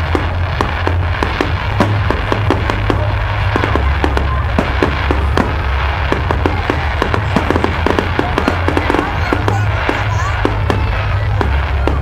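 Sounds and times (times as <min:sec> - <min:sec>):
deep rumble: 0:00.0 - 0:12.0
fireworks bangs and pops: 0:00.0 - 0:12.0.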